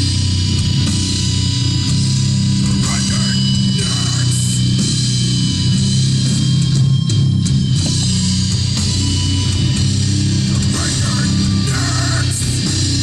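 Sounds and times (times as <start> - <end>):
heavy metal music: 0.0 - 13.0.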